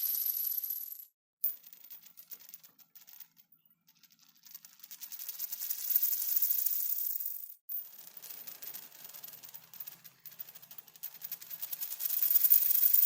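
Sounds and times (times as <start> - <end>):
coin spinning on hard surface: 0.0 - 13.0.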